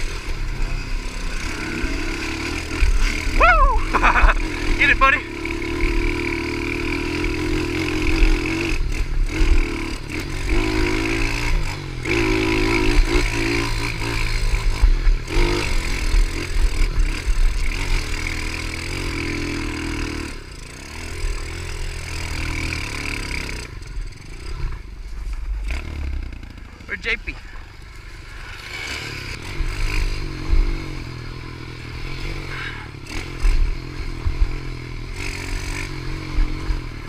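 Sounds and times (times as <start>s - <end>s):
pit bike engine revving: 0.0s - 37.0s.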